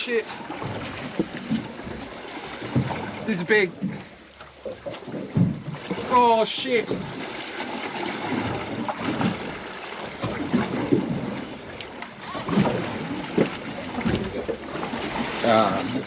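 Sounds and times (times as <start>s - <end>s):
sea washing around boat: 0.0s - 16.0s.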